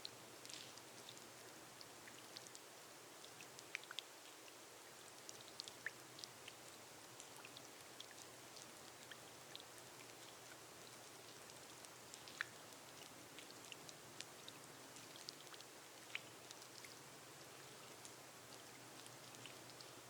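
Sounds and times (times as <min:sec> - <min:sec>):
rain on a glass roof: 0:00.0 - 0:20.0.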